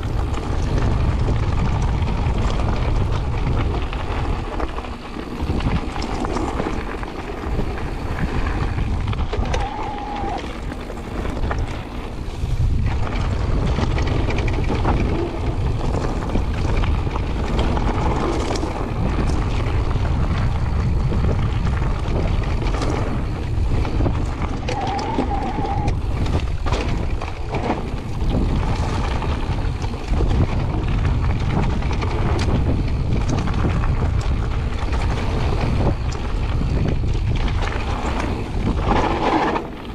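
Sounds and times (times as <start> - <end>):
bike knocks and rattles: 0.0 - 39.9
bike tyres on gravel: 0.0 - 39.9
wind buffeting microphone: 0.0 - 39.9.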